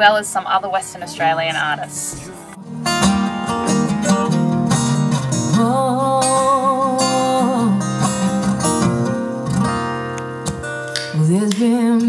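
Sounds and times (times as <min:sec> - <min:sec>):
acoustic guitars strumming: 0:00.0 - 0:12.0.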